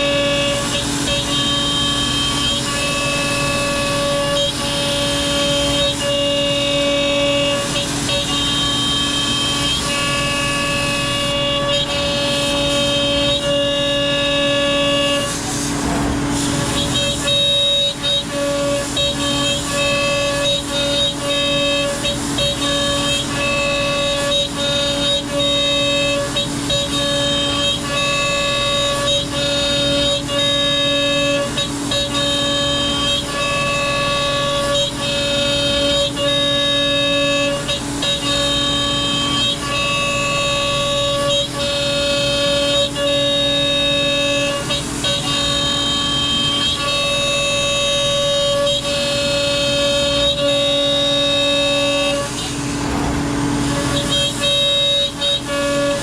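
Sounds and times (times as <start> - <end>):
cnc router whining: 0.0 - 56.0.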